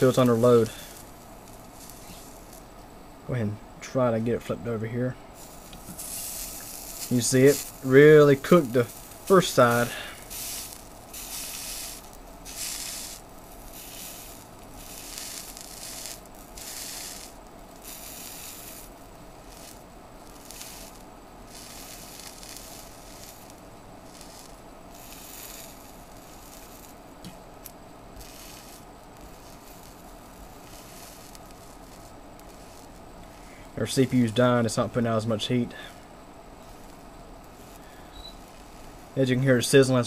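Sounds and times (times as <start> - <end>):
meat sizzling: 0.0 - 2.8, 5.4 - 27.4, 28.1 - 33.6, 36.6 - 39.8.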